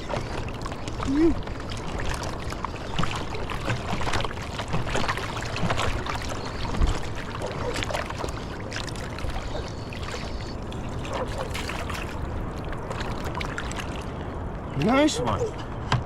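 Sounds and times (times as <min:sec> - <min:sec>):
water splashing and lapping: 0:00.0 - 0:16.0.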